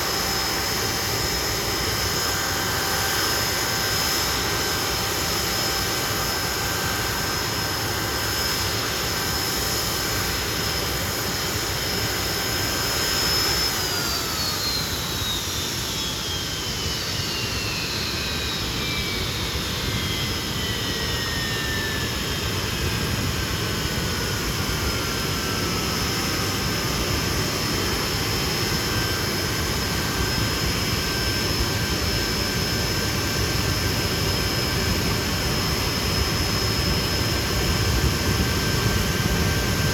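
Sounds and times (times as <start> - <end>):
jet engine spooling down: 0.0 - 39.9
jet engines whining: 0.0 - 39.9.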